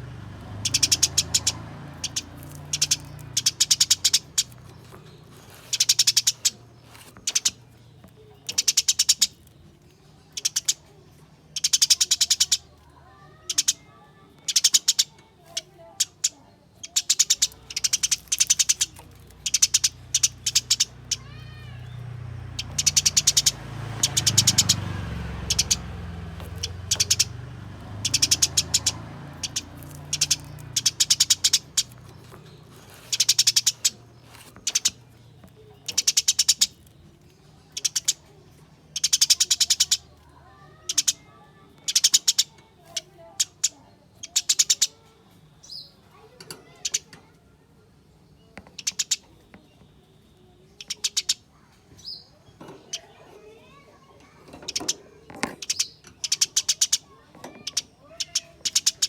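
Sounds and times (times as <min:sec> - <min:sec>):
sparrows chattering: 0:00.0 - 0:59.0.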